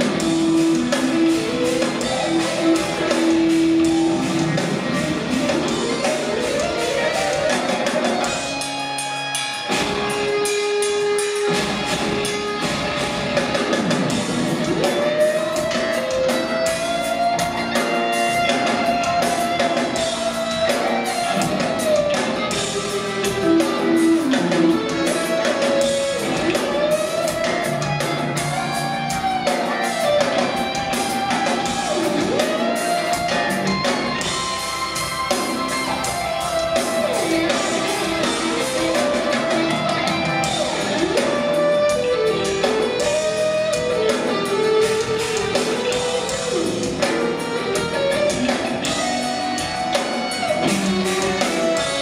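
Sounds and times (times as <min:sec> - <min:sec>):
drum kit: 0:00.0 - 0:52.0
electric guitar lead melody: 0:00.0 - 0:52.0.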